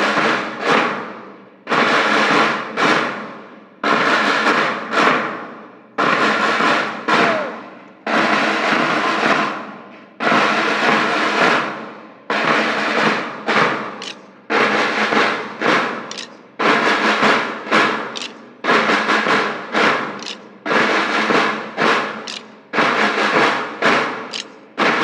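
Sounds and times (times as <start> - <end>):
drums struck in a pattern: 0.0 - 25.0.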